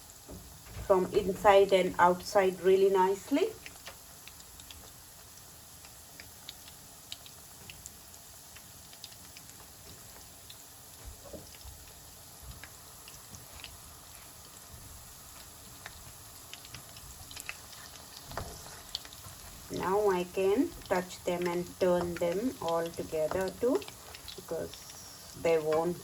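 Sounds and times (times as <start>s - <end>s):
food deep-frying in oil: 0.0s - 26.0s.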